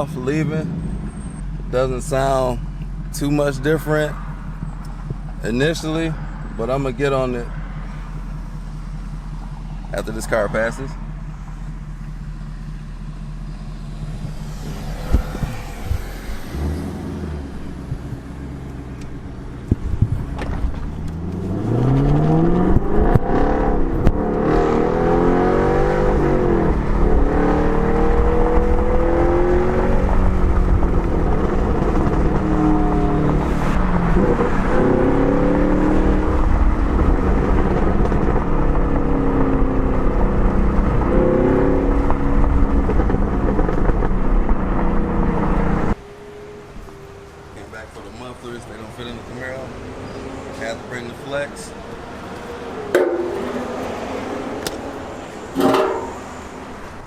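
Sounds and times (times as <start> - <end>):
car exhaust accelerating hard: 0.0 - 46.0, 52.2 - 57.0.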